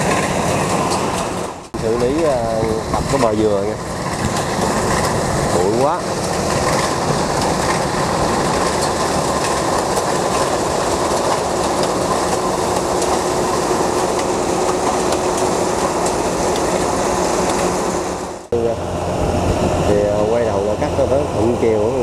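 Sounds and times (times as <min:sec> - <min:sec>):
combine harvester clattering: 0:00.0 - 0:22.0.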